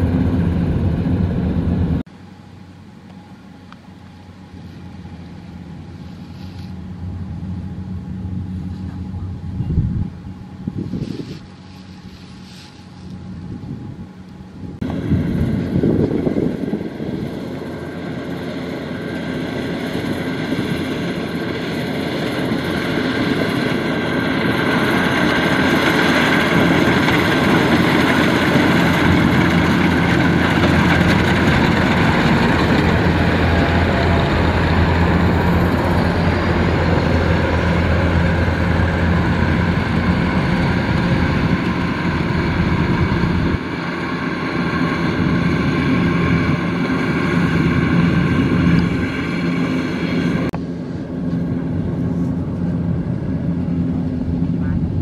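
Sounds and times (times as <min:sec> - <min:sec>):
combine harvester engine droning: 0:00.0 - 0:55.0.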